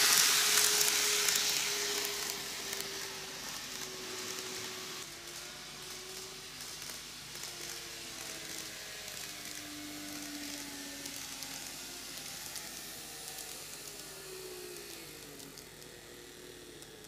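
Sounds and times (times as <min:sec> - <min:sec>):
small electric motor humming: 0:00.0 - 0:17.0
wheels hissing on rails: 0:00.0 - 0:17.0.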